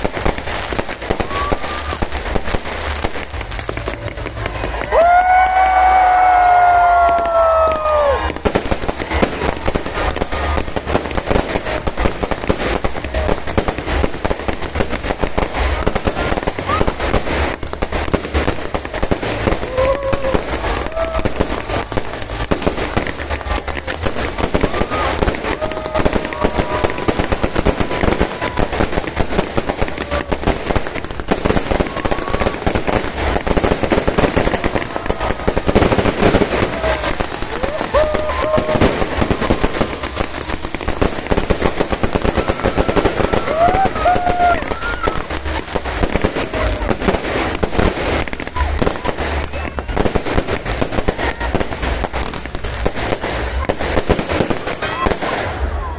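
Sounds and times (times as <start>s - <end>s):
fireworks crackling bangs: 0.0s - 55.9s.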